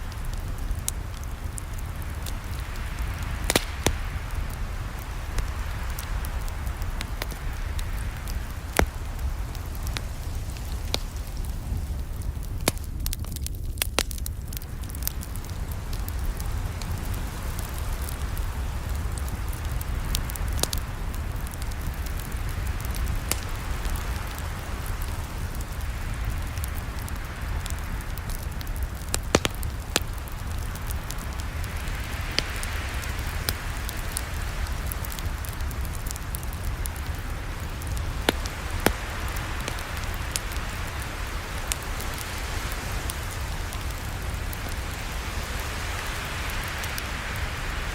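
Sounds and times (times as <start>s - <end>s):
campfire popping and crackling: 0.0s - 47.9s
fire rumble and hiss: 0.0s - 47.9s.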